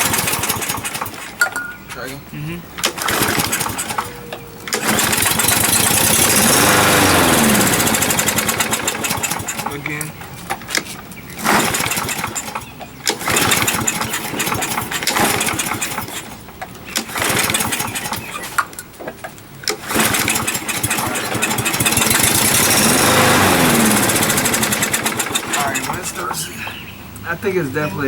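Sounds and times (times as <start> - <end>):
pull-start cord: 0.0 - 1.5, 2.8 - 26.6
lawn mower engine sputtering: 0.0 - 27.8.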